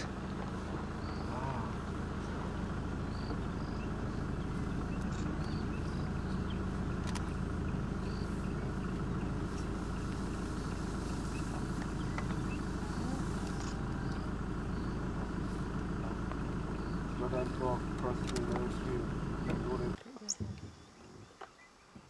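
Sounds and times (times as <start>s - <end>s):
vehicle engine idling: 0.0s - 21.2s.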